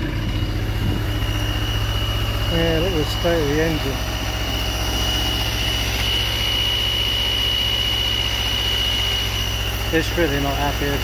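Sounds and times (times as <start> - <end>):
petrol engine misfiring: 0.0 - 11.0
steady high whistle: 0.4 - 11.0.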